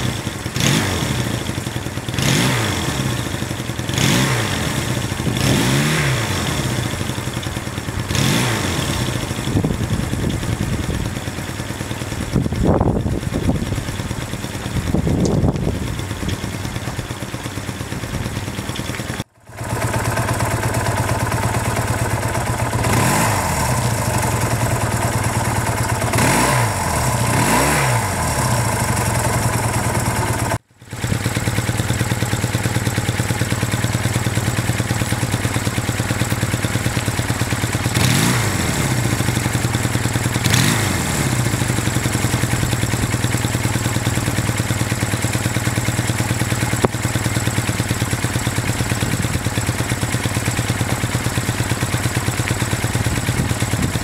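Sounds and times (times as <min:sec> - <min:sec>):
engine revving: 0:00.0 - 0:09.7, 0:18.8 - 0:54.0
motorcycle engine idling: 0:00.0 - 0:54.0.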